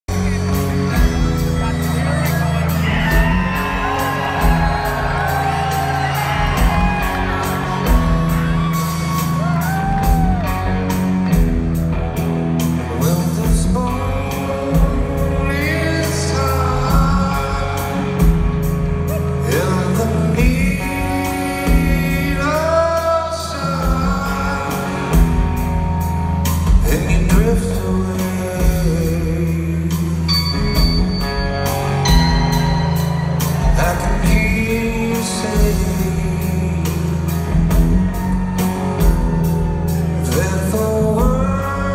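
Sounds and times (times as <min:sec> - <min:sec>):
live rock band playing: 0:00.0 - 0:41.9
lead vocal singing: 0:00.9 - 0:10.4, 0:12.8 - 0:18.5, 0:19.1 - 0:25.8, 0:26.7 - 0:30.5, 0:32.0 - 0:41.9.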